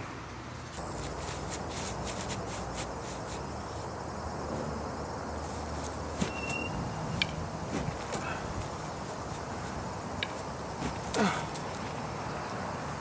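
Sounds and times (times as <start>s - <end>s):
faint insect chirping: 0.8s - 13.0s
steady hiss: 0.8s - 13.0s.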